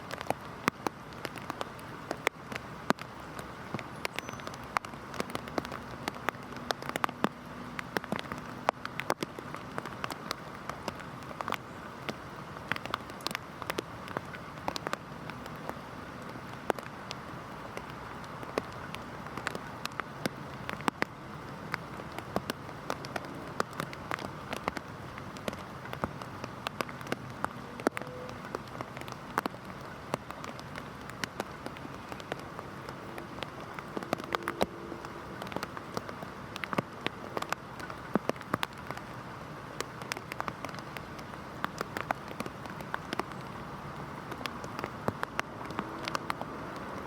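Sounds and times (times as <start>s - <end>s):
heavy rain hissing: 0.0s - 47.0s
raindrops tapping close by: 0.0s - 47.0s.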